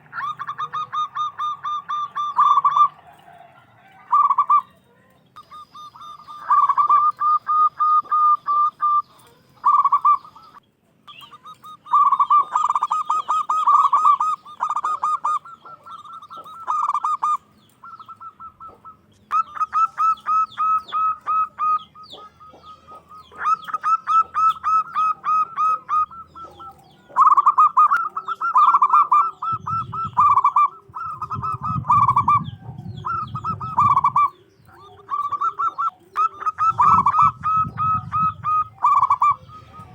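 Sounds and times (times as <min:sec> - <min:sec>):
dove calling rolling notes: 0:00.0 - 0:39.9.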